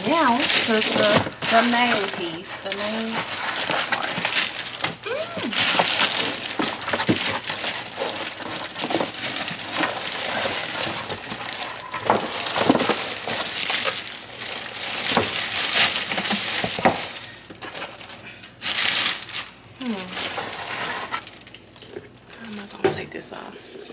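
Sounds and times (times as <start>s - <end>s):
packaging rustling and crinkling: 0.0s - 22.7s.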